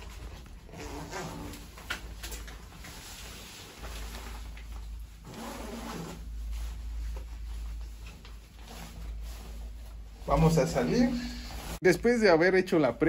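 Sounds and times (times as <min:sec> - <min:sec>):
jacket fabric rustling: 0:00.0 - 0:12.1.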